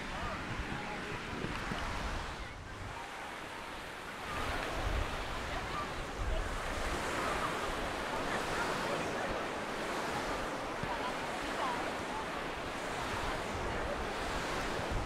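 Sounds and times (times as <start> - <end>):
wind buffeting microphone: 0.0 - 11.4, 12.1 - 15.0
surf washing onto beach: 0.0 - 15.0.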